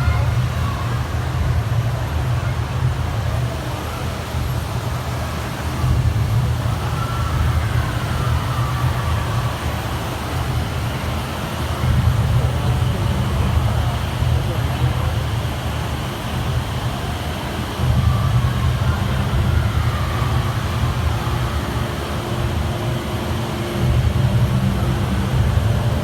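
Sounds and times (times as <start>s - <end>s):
indoor waterfall roaring: 0.0s - 26.0s
murmur of crowd voices: 0.0s - 26.0s.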